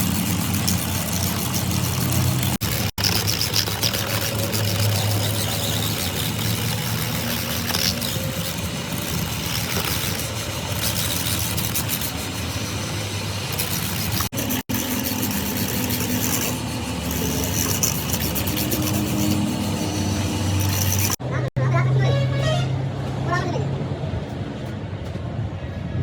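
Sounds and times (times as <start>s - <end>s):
machine engine humming: 0.0s - 21.2s
workshop noise: 0.0s - 26.0s.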